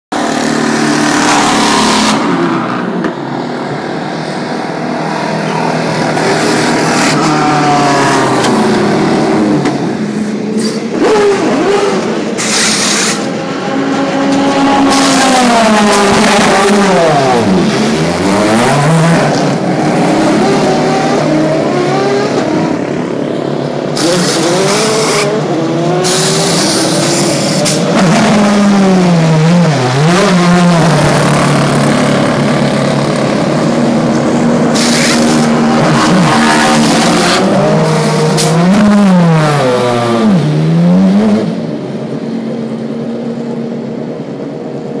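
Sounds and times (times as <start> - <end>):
race car engines running: 0.1 - 45.0
race cars passing: 0.1 - 45.0.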